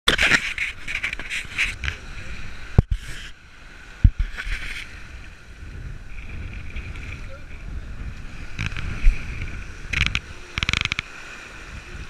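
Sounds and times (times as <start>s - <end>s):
water rushing along boat hull: 0.1s - 12.0s.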